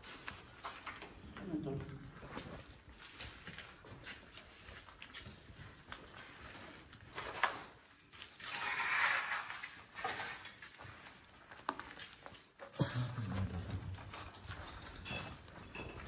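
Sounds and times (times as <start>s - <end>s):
footsteps crunching over rubble: 0.0s - 16.0s.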